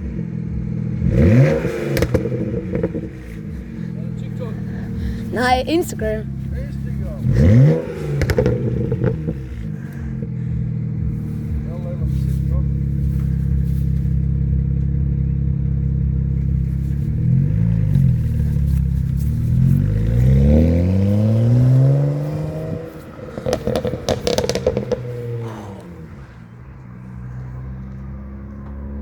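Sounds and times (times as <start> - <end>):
car engine idling and revving: 0.0 - 29.0
exhaust pops and crackles: 0.0 - 29.0.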